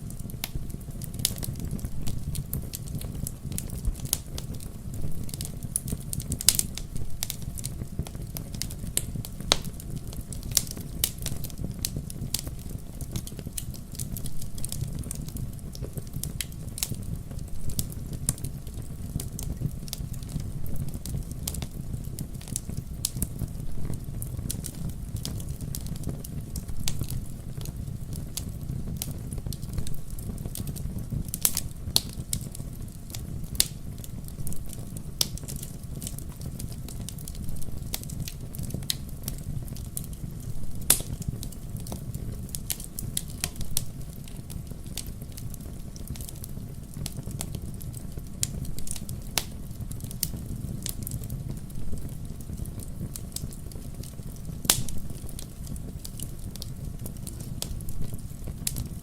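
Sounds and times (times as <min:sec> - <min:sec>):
logs burning in fireplace: 0:00.0 - 0:59.0.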